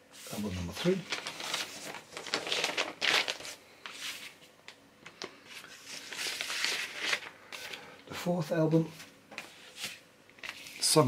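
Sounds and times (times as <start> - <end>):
paper and cardboard rustling: 0.2 - 4.5, 5.5 - 7.8, 8.8 - 11.0.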